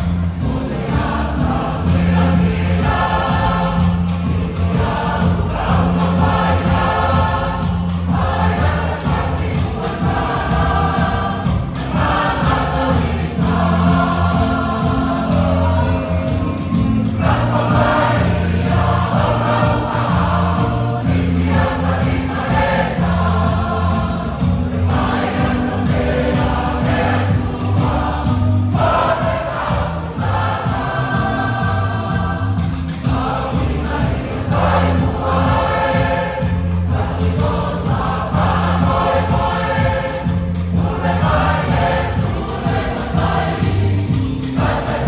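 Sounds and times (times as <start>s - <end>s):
choir singing a hymn: 0.0s - 45.0s
low bass notes: 0.0s - 45.0s.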